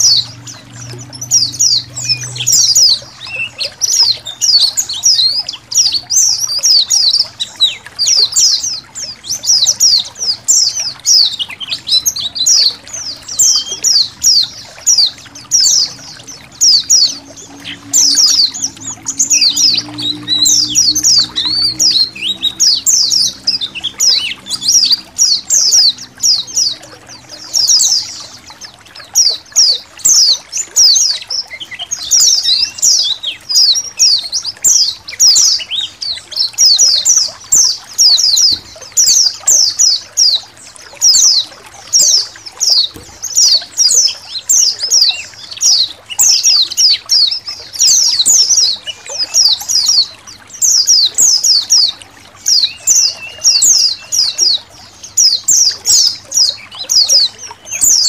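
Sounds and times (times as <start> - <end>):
birds twittering high-pitched: 0.0 - 58.0
trickling water: 0.0 - 58.0.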